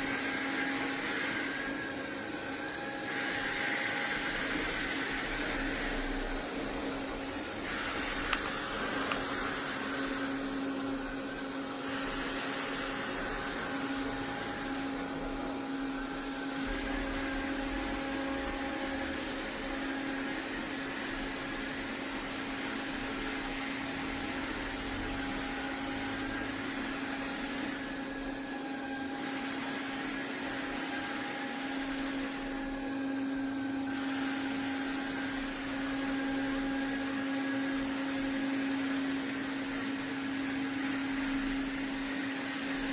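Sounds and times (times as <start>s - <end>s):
robot vacuum whirring: 0.0s - 42.9s.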